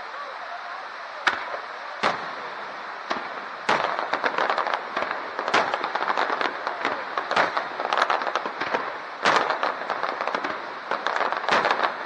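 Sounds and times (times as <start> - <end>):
fireworks crackling pops: 0.0 - 12.0
fireworks bangs: 1.2 - 12.0.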